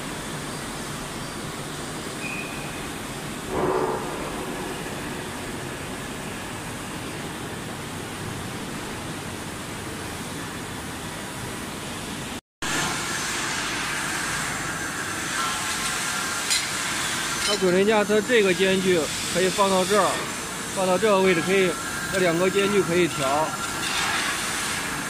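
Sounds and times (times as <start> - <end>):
factory hall background noise: 0.0 - 25.0.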